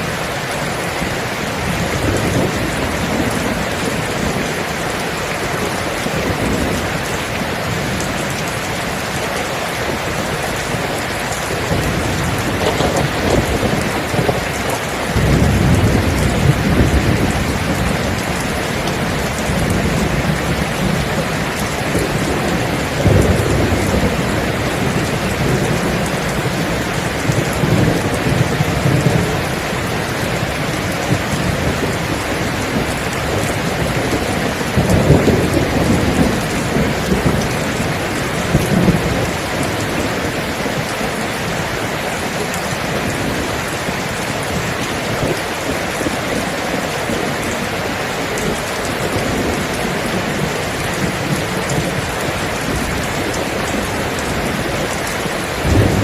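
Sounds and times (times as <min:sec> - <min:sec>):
heavy rain: 0:00.0 - 0:56.0
rolling thunder: 0:09.9 - 0:47.6, 0:48.3 - 0:56.0.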